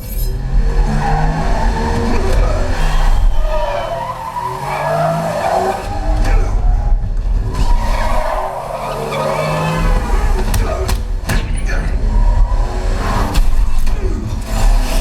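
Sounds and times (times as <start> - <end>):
car engine: 0.0 - 15.0
tyres screeching and skidding: 0.0 - 15.0.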